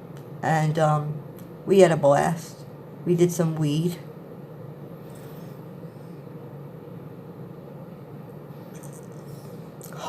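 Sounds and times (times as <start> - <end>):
faint hum: 0.0 - 10.0
low rushing background noise: 0.0 - 10.0.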